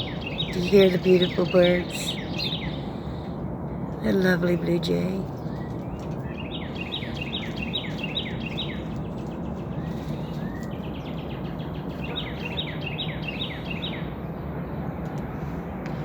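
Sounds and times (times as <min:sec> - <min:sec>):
low background rumble: 0:00.0 - 0:16.0
songbird singing: 0:00.0 - 0:16.0.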